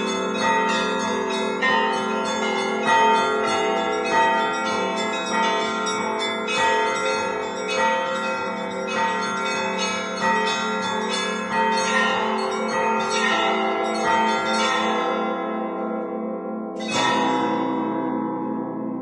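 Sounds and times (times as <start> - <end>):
church bells ringing pattern: 0.0 - 19.0
low hum of large bell: 0.0 - 19.0.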